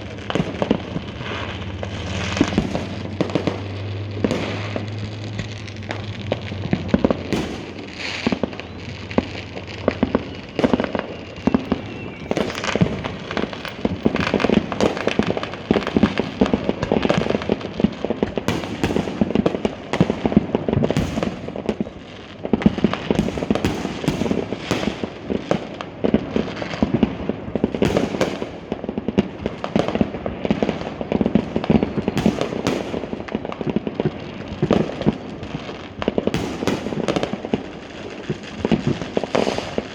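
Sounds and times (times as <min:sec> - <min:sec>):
fireworks popping and banging: 0:00.0 - 0:39.9.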